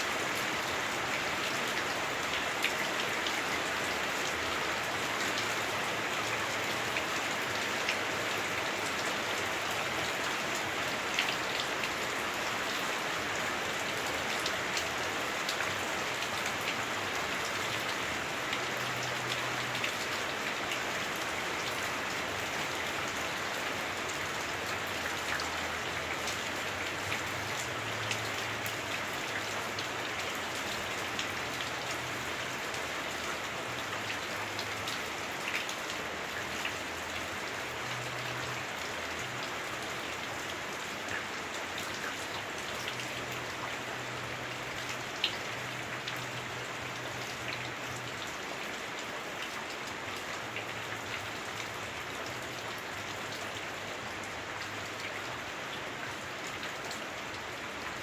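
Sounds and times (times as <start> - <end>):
heavy rain on roof: 0.0 - 58.0.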